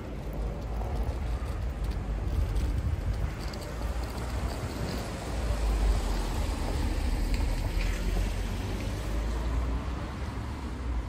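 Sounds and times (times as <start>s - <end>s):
wet road hiss: 0.0s - 10.7s
low traffic rumble: 0.0s - 11.0s.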